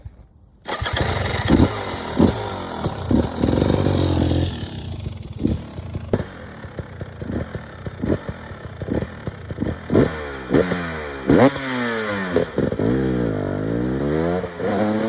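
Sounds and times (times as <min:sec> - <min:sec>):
two-stroke engine revving: 0:00.7 - 0:15.0.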